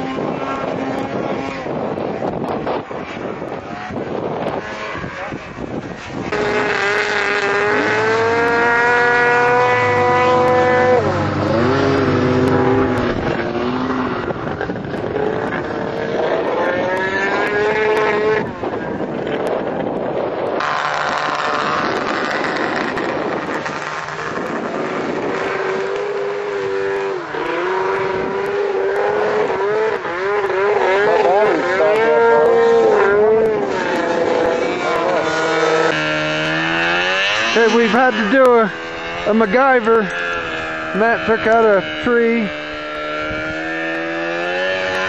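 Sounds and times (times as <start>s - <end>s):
snowmobile engine revving: 0.0s - 45.0s.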